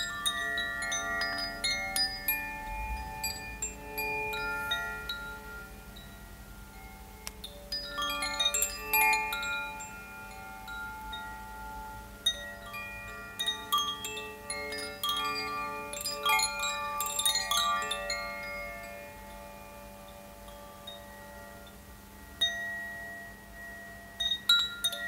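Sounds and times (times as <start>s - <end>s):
chimes ringing: 0.0s - 25.0s.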